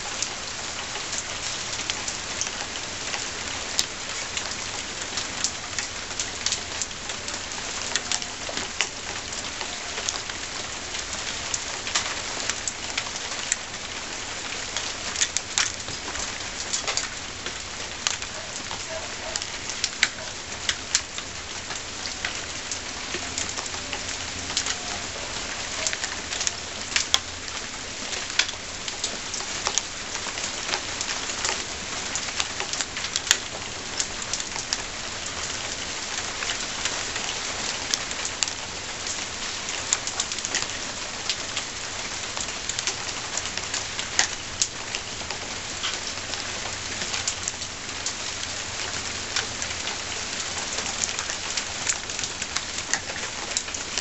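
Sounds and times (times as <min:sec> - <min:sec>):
steady rain: 0:00.0 - 0:54.0
hailstones ticking on hard surfaces: 0:00.1 - 0:54.0.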